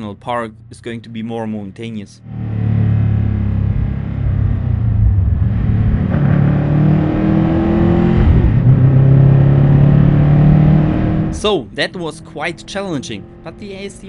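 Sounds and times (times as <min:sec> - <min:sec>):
car engine and exhaust: 0:00.0 - 0:14.0.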